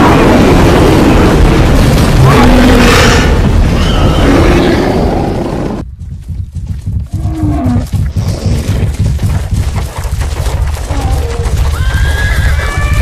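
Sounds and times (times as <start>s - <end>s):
rumble of heavy hoofbeats: 0.0s - 13.0s.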